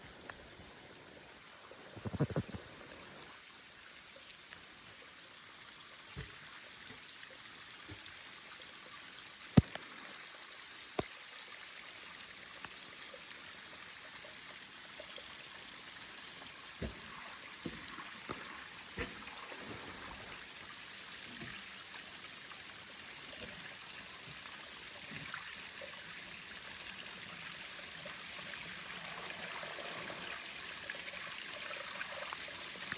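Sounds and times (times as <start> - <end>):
small waterfall splashing over rocks: 0.0 - 32.9.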